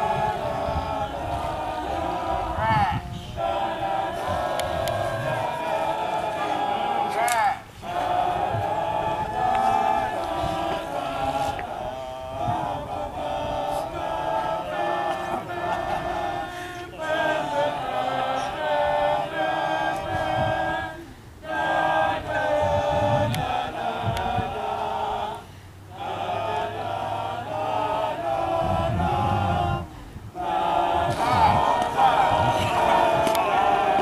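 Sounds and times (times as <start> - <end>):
group singing without instruments: 0.0 - 34.0.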